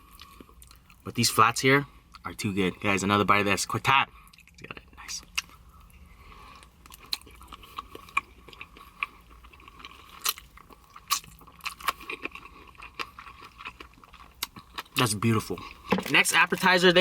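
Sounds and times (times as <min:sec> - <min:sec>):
chewing with crisp crunches: 0:00.0 - 0:01.3, 0:04.2 - 0:17.0.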